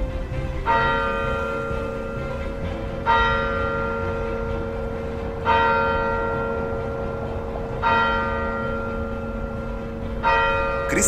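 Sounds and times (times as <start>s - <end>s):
church bell tolling: 0.7s - 11.0s.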